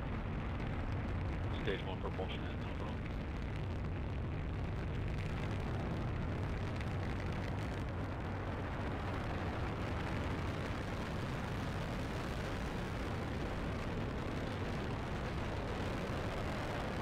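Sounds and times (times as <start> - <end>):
rocket engines deep rumble: 0.0 - 17.0.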